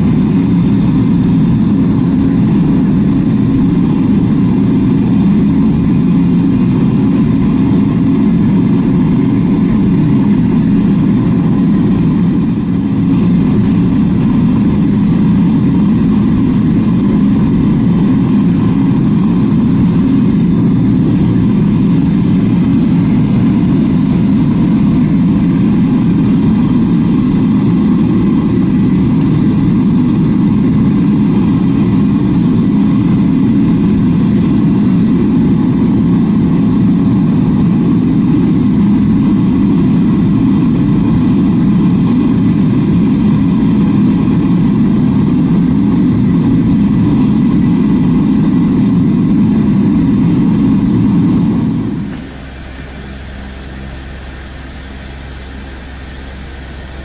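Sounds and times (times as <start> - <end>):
loud steady machine noise: 0.0 - 57.0.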